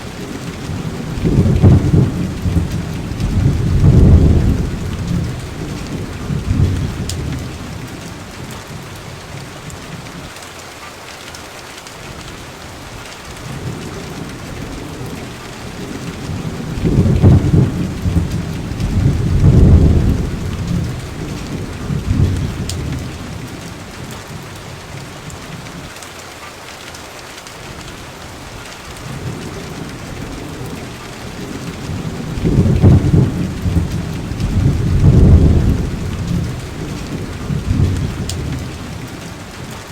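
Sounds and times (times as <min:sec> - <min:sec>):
thunder rumbles: 0:00.0 - 0:09.4, 0:13.4 - 0:25.8, 0:28.9 - 0:39.9
steady rain: 0:00.0 - 0:39.9.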